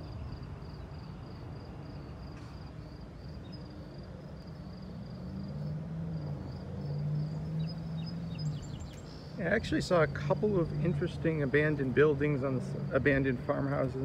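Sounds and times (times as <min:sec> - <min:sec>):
insect chirping: 0:00.0 - 0:13.8.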